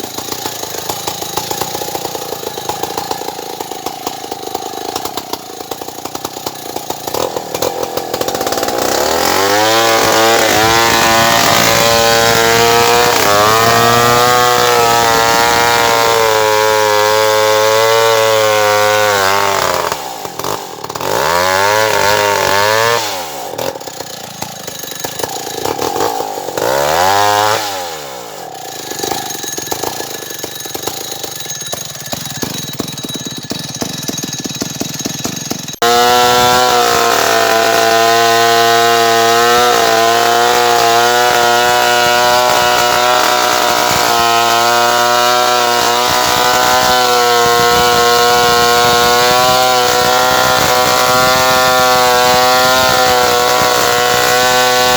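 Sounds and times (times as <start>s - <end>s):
chainsaw idling and revving: 0.0s - 54.9s.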